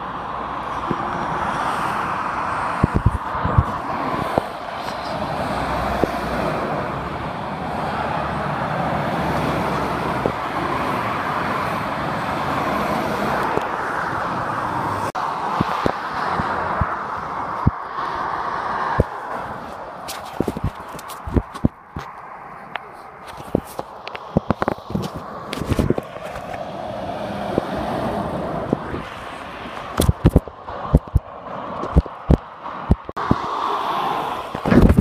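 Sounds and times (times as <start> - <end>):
heavy lorry rumble: 0.0 - 33.4
road traffic passing: 0.0 - 35.0.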